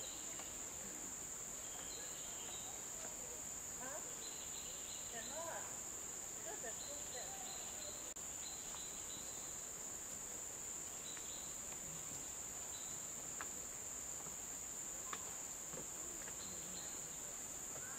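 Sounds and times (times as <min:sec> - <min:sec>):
insect chorus drone: 0:00.0 - 0:17.9.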